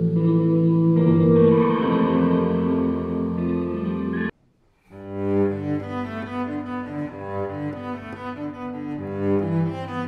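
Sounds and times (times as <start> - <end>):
slow bowed-string melody: 0.0 - 4.3, 4.9 - 10.0.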